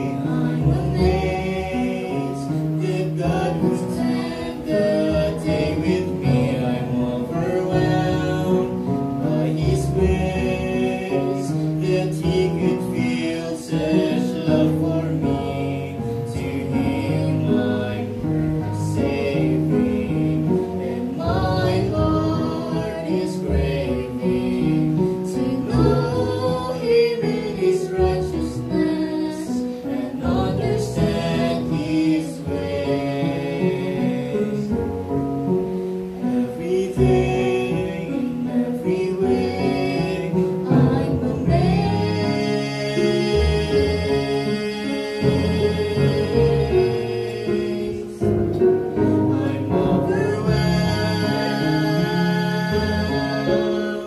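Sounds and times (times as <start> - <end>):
musical accompaniment: 0.0 - 54.0
woman and man singing gospel duet: 0.0 - 54.0.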